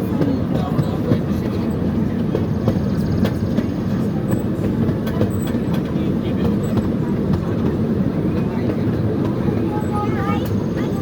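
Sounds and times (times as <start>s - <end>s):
train rolling on track: 0.0s - 11.0s
wheels clicking over rails: 0.0s - 11.0s.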